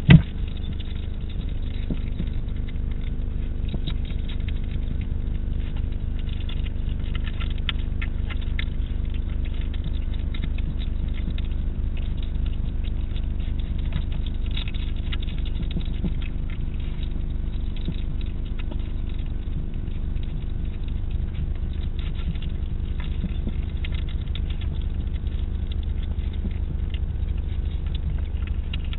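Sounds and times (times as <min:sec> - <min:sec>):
hedgehog crunching and chewing: 0:00.0 - 0:28.9
low electrical hum: 0:00.0 - 0:28.9.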